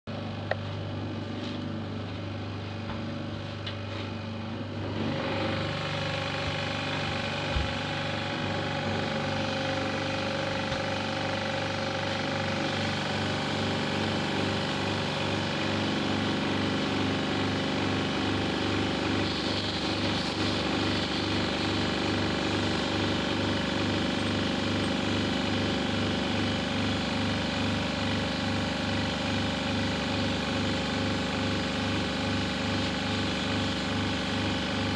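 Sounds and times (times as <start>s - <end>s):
pressure washer pump hum: 0.1s - 34.9s.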